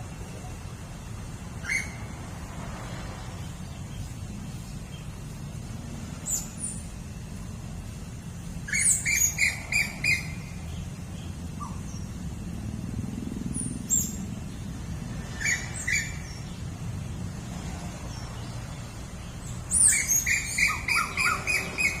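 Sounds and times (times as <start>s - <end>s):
steady low rumble: 0.0s - 19.7s
birds chirping: 0.0s - 22.0s.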